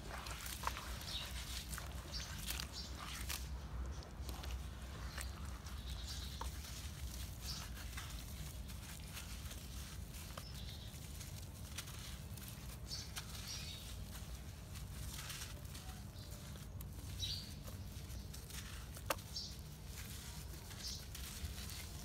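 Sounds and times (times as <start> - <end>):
crunchy crackles: 0.0 - 22.0
wet cement squelches: 0.0 - 22.0.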